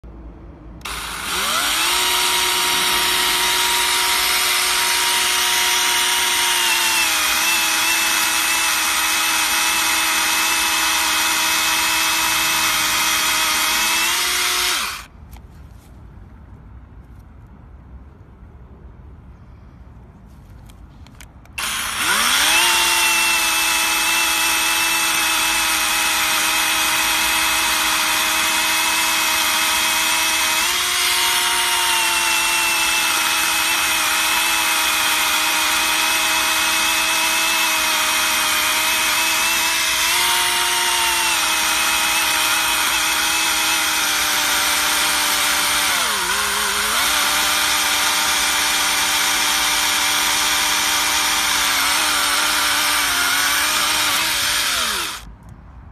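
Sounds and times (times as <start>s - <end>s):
electric chainsaw cutting log: 0.8s - 15.1s, 21.5s - 55.3s.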